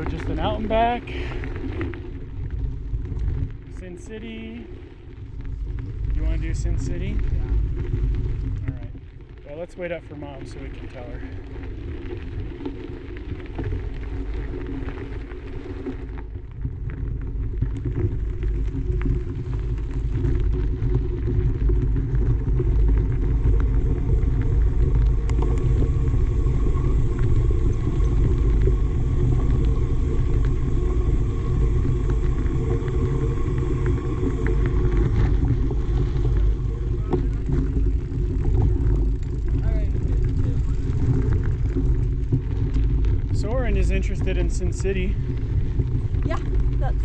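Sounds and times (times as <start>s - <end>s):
wind buffeting microphone: 0.0s - 14.6s, 16.7s - 47.0s
bike tyres on dirt trail: 0.0s - 47.0s.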